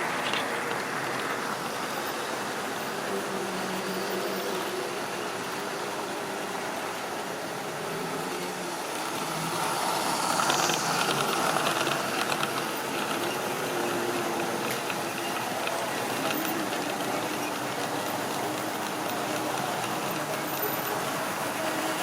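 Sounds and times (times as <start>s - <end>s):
model train motor hum: 0.0s - 22.0s
wheels clicking over rails: 0.0s - 22.0s.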